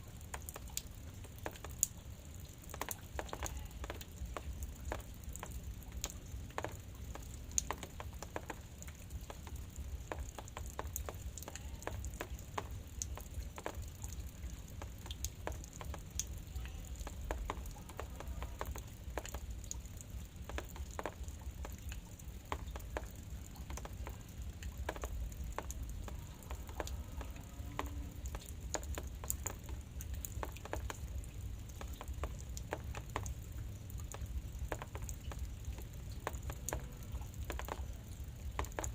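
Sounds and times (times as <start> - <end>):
light drizzle pattering: 0.0 - 38.9.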